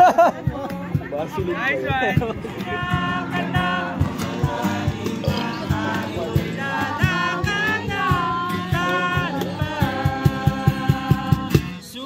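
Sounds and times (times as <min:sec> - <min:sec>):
steady drum beat: 0:00.0 - 0:11.8
song with singing voice: 0:02.3 - 0:12.0.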